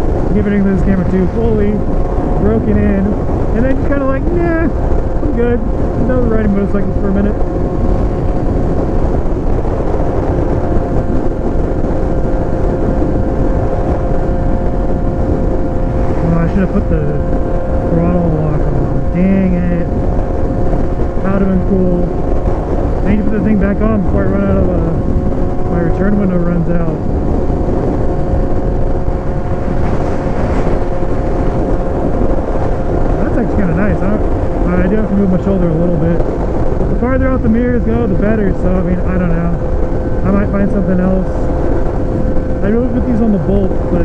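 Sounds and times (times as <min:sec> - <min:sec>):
motorcycle engine cruising: 0:00.0 - 0:44.0
wind and road rush: 0:00.0 - 0:44.0.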